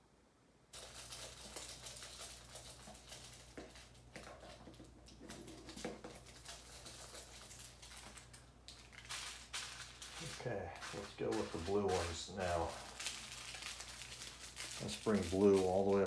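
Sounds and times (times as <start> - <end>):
plastic bags crinkling: 0.7 - 16.0
plastic beads pattering into glass jar: 0.7 - 16.0.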